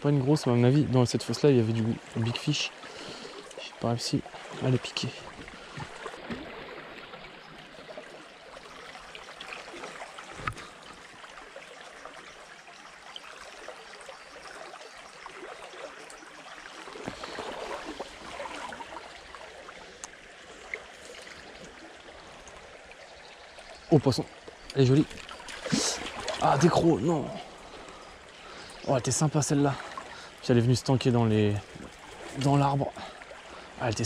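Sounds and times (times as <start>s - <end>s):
stream rippling over stones: 0.0s - 34.0s.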